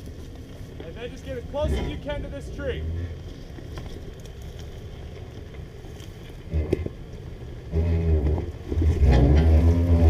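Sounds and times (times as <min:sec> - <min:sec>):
suv engine running low: 0:00.0 - 0:10.0.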